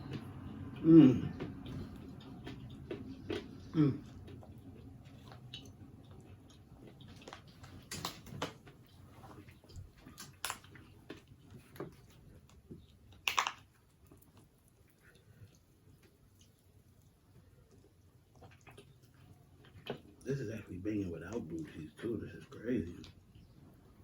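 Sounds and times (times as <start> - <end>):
chewing crispy chicken: 0.0 - 24.0.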